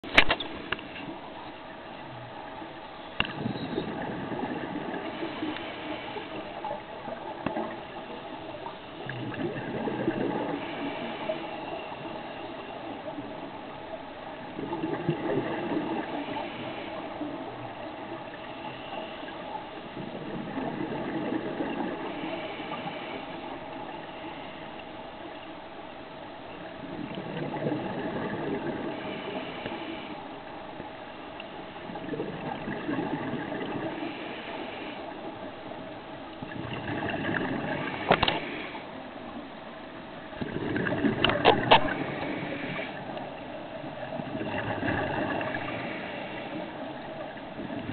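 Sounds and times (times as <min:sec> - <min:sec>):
steady hum: 0:00.0 - 0:47.9.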